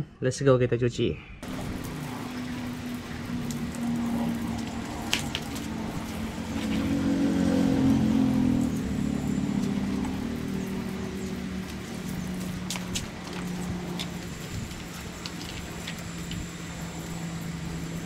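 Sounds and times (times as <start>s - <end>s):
low steady hum: 1.4s - 18.0s
water spraying: 1.4s - 18.0s.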